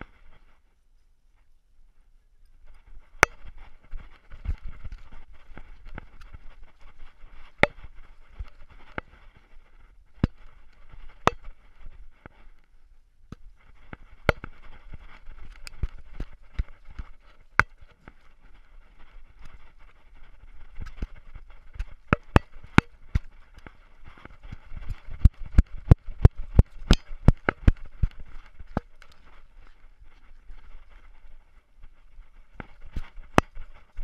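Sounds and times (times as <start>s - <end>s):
camera rubbing and scraping: 0.0s - 0.6s, 2.6s - 12.7s, 13.3s - 34.0s.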